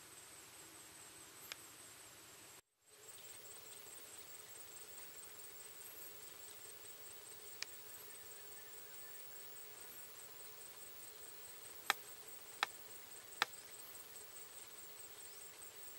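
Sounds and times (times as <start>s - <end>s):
high-pitched insect drone: 2.9s - 15.9s.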